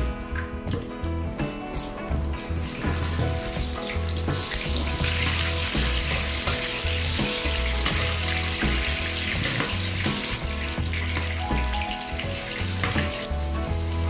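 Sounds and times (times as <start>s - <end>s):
carrots sizzling in hot oil: 1.8s - 14.0s.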